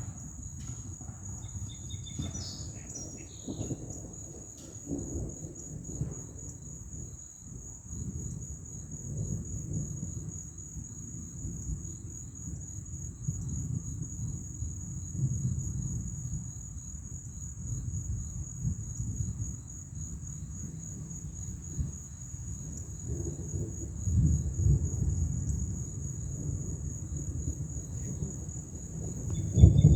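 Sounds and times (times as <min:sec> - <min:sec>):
distant thunder rumbling: 0:00.0 - 0:16.8, 0:17.7 - 0:29.9
crickets chirping: 0:00.0 - 0:29.9.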